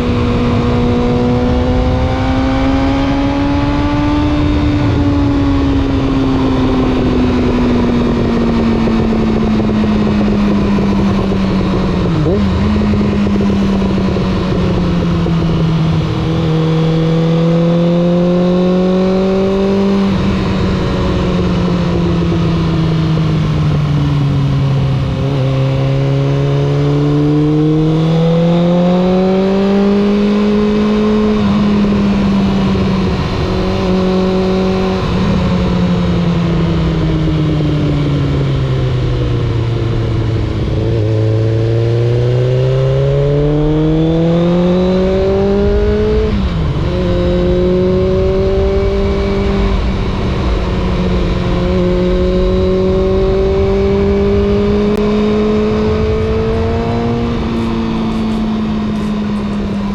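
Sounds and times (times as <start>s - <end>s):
motorcycle engine and exhaust: 0.0s - 59.9s.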